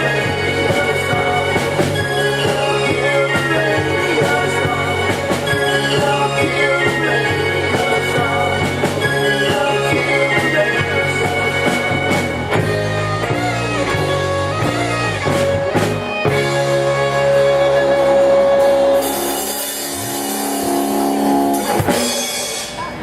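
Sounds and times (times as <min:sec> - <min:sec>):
drums: 0:00.0 - 0:23.0
rock band playing live: 0:00.0 - 0:23.0.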